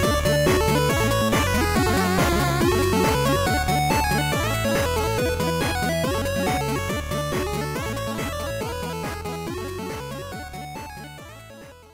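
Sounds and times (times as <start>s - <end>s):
background music with steady beat: 0.0s - 11.9s.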